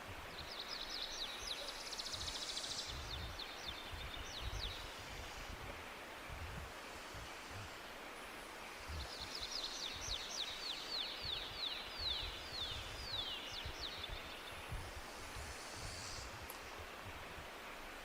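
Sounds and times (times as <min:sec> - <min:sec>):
forest ambience hiss: 0:00.0 - 0:18.0.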